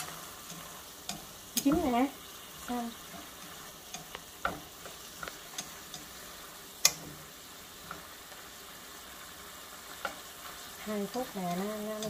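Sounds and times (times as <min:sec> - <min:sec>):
stir-fry sizzling in a pan: 0:00.0 - 0:12.0.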